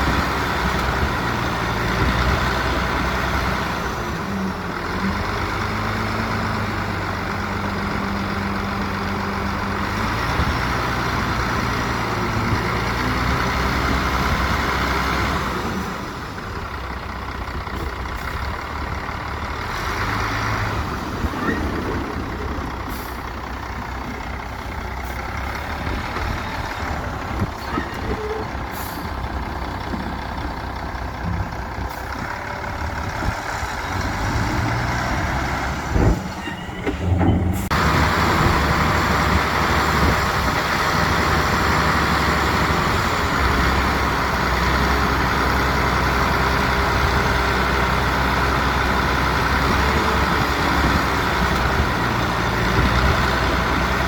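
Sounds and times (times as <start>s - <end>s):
diesel construction machines running: 0.0s - 54.0s.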